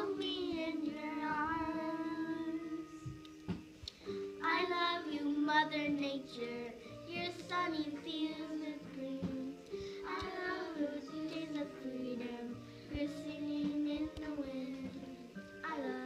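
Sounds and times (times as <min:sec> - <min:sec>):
girls singing pop song: 0:00.0 - 0:16.0.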